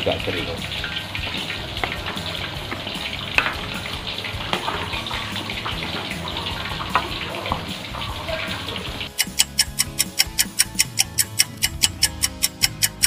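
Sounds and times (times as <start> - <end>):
stew bubbling in a wok: 0.0 - 13.0
spatula knocking against wok: 0.6 - 8.2, 9.0 - 13.0.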